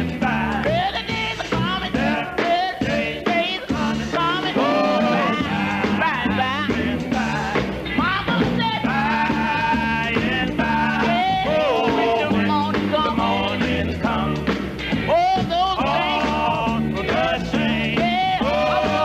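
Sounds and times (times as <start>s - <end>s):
gospel quartet singing: 0.0s - 19.0s
instrumental accompaniment with beat: 0.0s - 19.0s.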